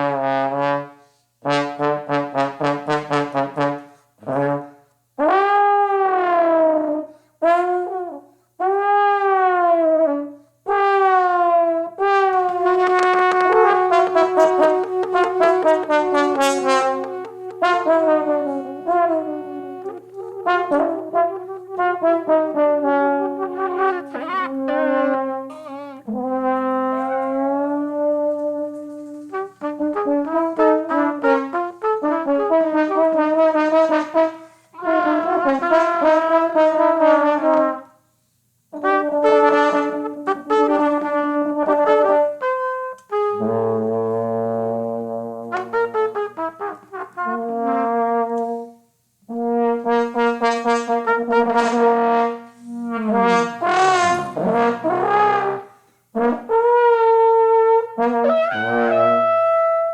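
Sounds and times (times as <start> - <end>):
trombone: 0.0 - 37.9, 38.7 - 59.9
trumpet: 0.0 - 38.1, 38.7 - 59.9.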